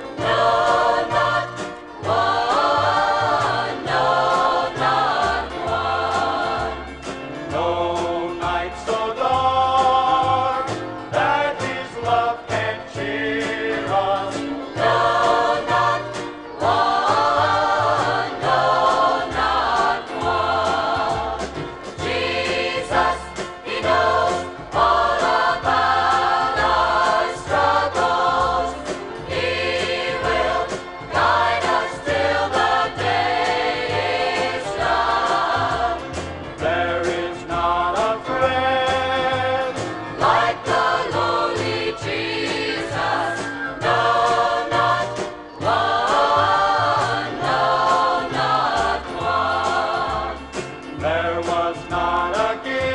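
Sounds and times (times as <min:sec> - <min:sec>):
choir singing gospel music: 0:00.0 - 0:52.9
steady bass line: 0:00.0 - 0:52.9.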